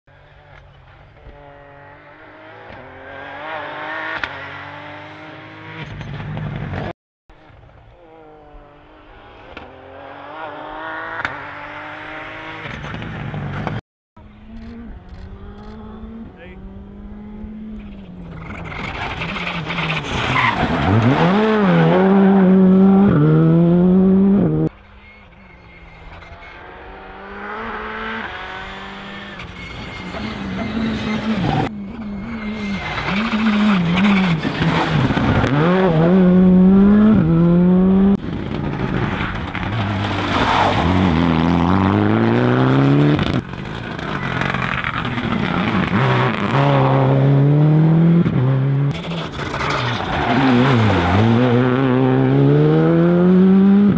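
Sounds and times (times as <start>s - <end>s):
rally car engines revving: 0.1s - 53.9s.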